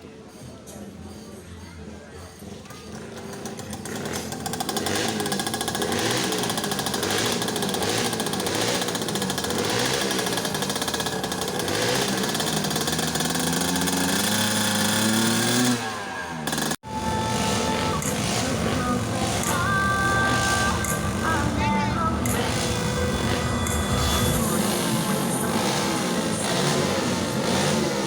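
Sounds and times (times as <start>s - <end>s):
dirt bike engines revving: 2.8s - 28.0s.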